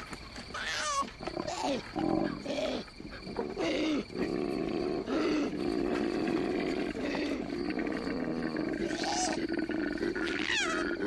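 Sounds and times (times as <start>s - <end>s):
koala bellowing: 0.6s - 11.0s.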